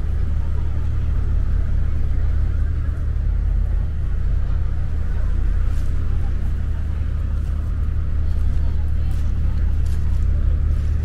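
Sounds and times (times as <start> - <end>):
boat engine droning: 0.0 - 11.0
faint crowd chatter: 0.0 - 11.0.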